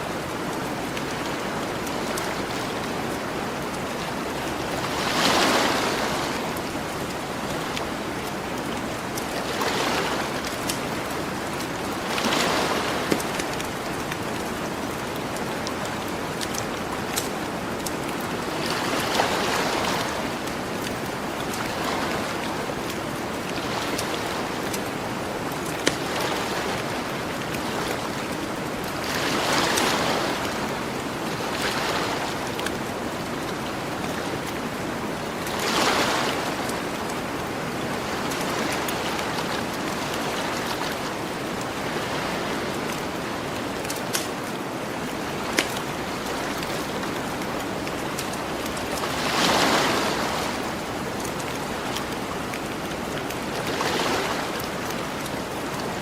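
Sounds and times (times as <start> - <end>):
ocean waves washing onto shore: 0.0 - 56.0.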